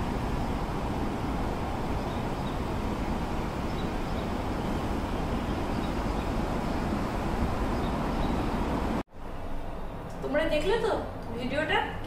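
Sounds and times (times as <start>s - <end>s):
distant helicopters rumbling: 0.0s - 10.0s.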